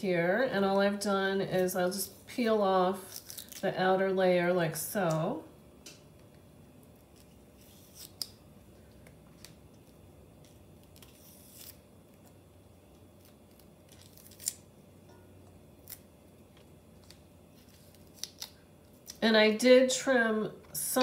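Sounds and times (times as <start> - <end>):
scallions being peeled: 1.5 - 4.1, 4.8 - 19.3.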